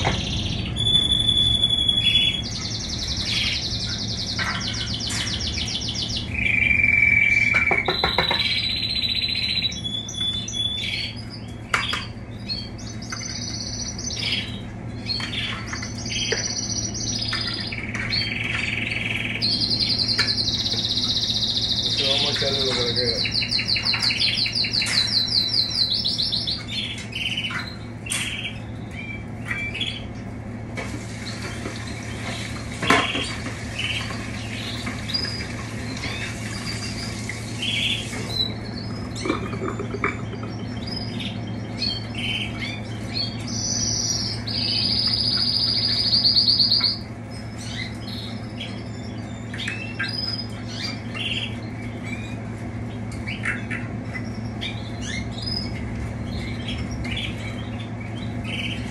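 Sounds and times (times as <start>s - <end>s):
canaries chirping: 0.0s - 58.9s
canary trilling song: 0.0s - 58.9s
steady low hum: 0.0s - 58.9s.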